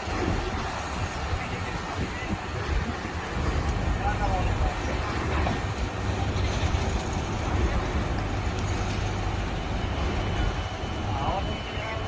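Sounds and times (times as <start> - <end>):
diesel machinery rumbling: 0.0 - 12.0.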